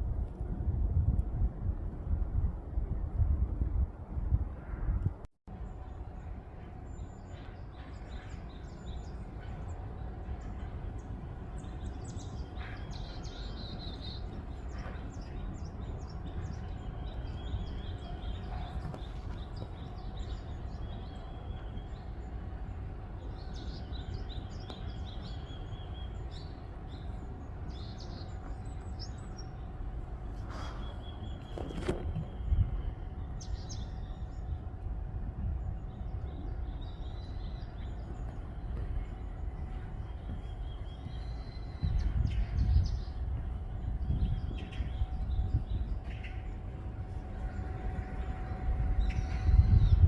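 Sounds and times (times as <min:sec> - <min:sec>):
wind rumble on microphone: 0:00.0 - 0:50.0
small birds chirping: 0:06.9 - 0:34.7, 0:35.6 - 0:50.0.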